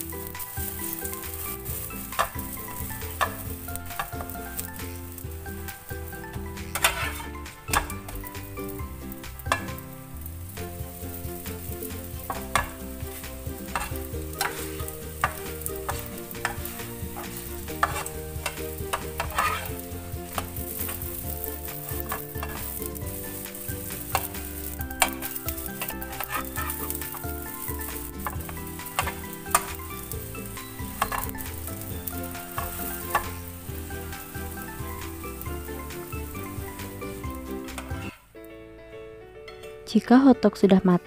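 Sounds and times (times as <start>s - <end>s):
pancakes sizzling in oil: 0.0s - 38.3s
metal spatula scraping pan: 0.2s - 38.2s.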